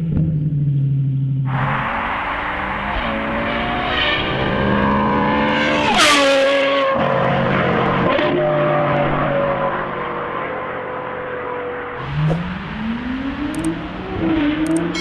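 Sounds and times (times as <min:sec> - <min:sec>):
sports car engine revving: 0:01.5 - 0:15.0.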